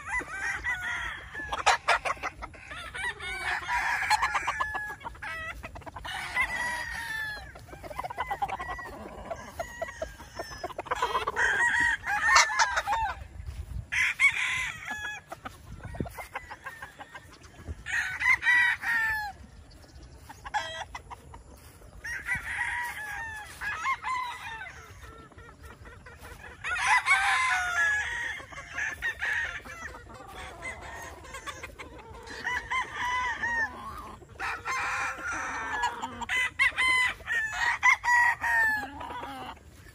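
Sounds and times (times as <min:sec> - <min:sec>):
chickens clucking: 0:00.0 - 0:39.9
roosters crowing: 0:00.0 - 0:39.9.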